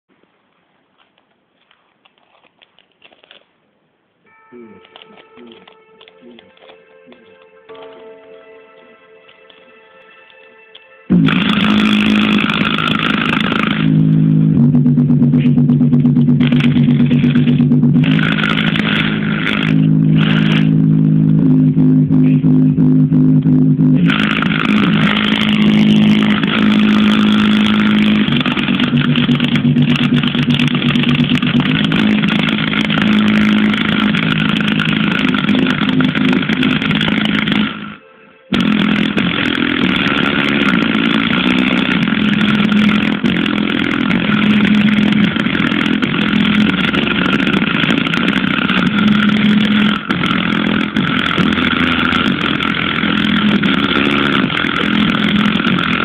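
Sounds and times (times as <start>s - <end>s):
distorted subwoofer bass buzz: 11.1s - 56.0s.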